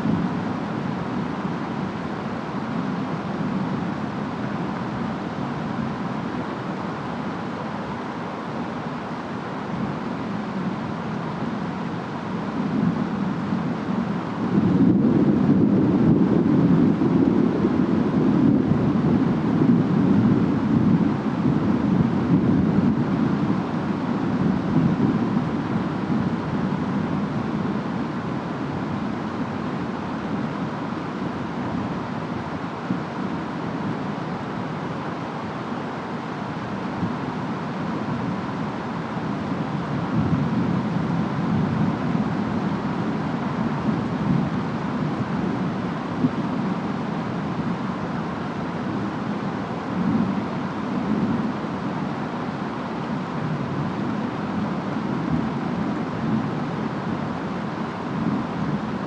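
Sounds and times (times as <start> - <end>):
steady rain: 0.0 - 59.0
wind: 0.0 - 59.0.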